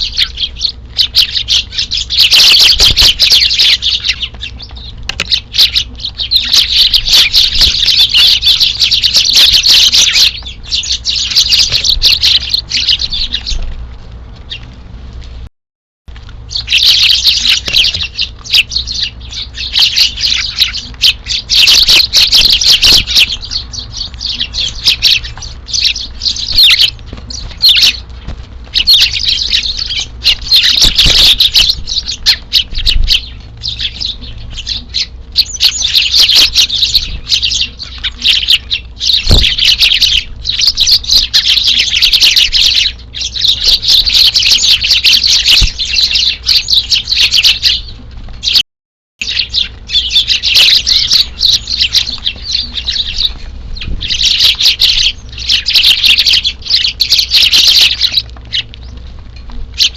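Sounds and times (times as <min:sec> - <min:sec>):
flock of sparrows chirping: 0:00.0 - 0:15.5, 0:16.1 - 0:48.6, 0:49.2 - 0:59.9.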